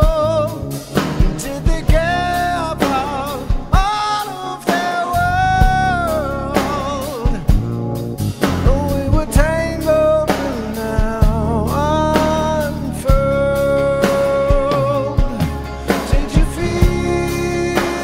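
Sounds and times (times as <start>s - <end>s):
man singing: 0.0s - 18.0s
rock song: 0.0s - 18.0s.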